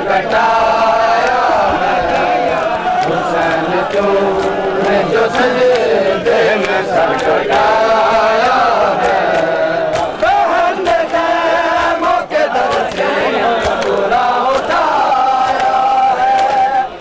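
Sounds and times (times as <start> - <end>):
crowd of men chanting: 0.0 - 17.0
hands slapping bare chests: 1.1 - 16.7.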